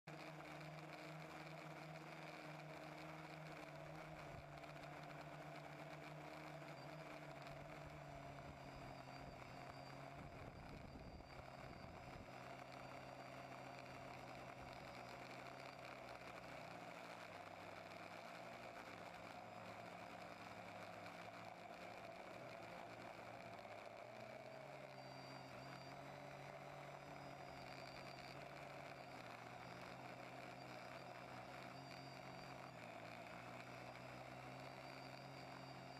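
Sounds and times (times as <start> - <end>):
quadcopter motors humming: 0.1 - 35.9.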